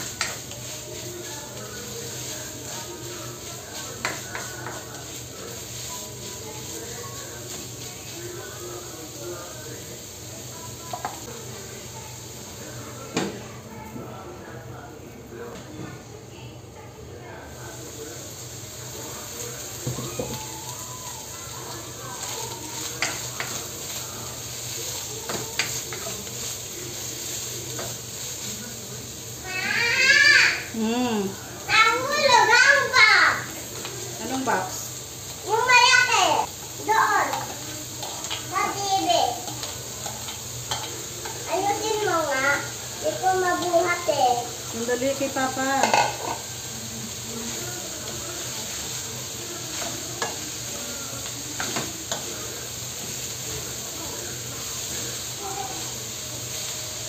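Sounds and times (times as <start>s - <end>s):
meat sizzling in a wok: 0.0s - 14.6s, 16.0s - 57.0s.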